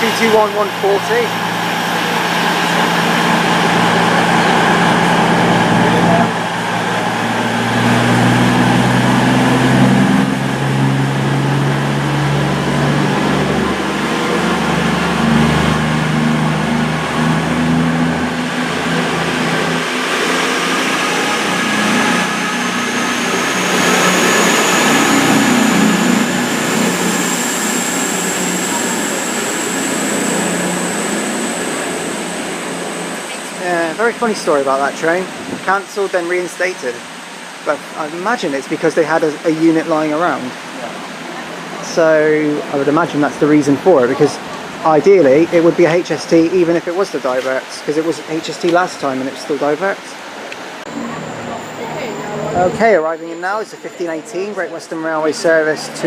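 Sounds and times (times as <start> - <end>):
high whine rising in pitch: 0.0 - 49.8, 50.6 - 56.0
diesel train engines running hard: 0.0 - 56.0.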